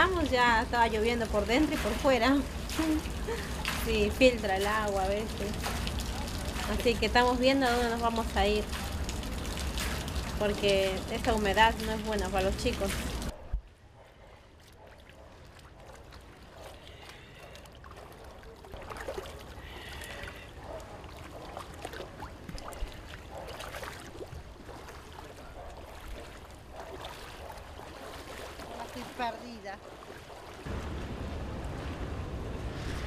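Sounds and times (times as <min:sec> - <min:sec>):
floodwater sloshing and splashing: 0:00.0 - 0:33.0.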